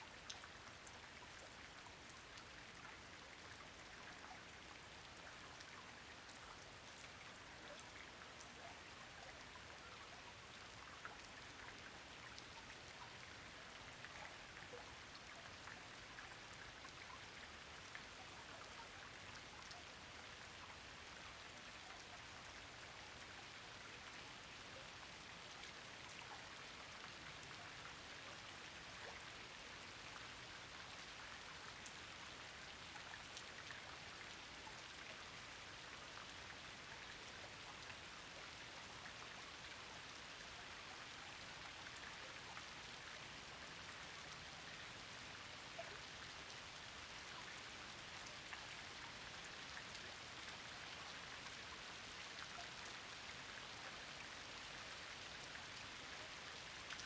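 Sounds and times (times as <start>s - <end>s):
faint rain patter: 0.0s - 57.0s.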